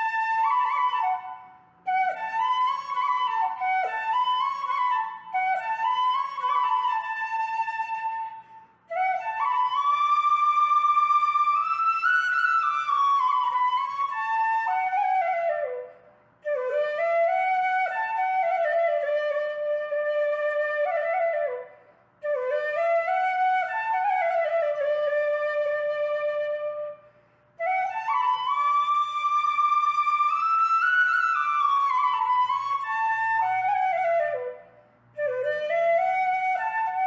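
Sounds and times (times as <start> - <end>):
solo flute melody: 0.0 - 37.0.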